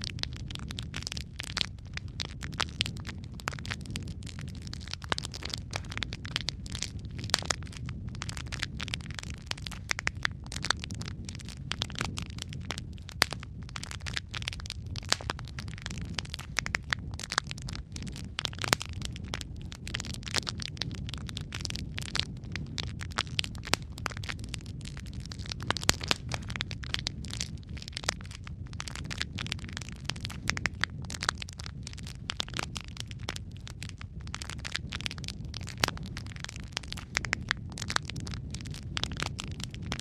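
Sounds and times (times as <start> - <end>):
fire flames rumbling: 0.0 - 40.0
wood fire crackles and pops: 0.0 - 40.0.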